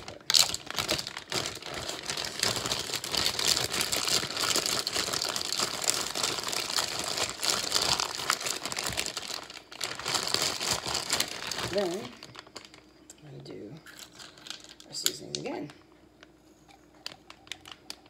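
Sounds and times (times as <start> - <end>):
plastic bag crinkling: 0.0 - 13.0, 13.8 - 18.0.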